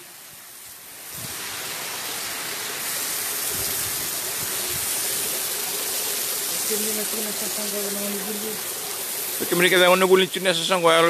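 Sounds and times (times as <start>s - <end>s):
rushing water from heavy rain: 0.0s - 11.0s.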